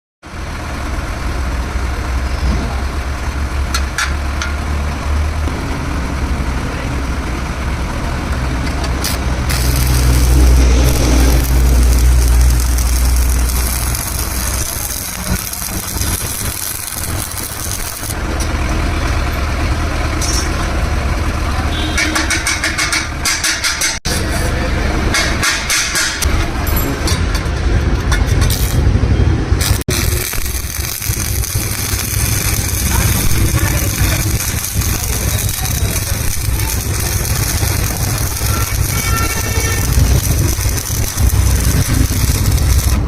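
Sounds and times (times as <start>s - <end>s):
engine humming steadily: 0.2s - 43.0s.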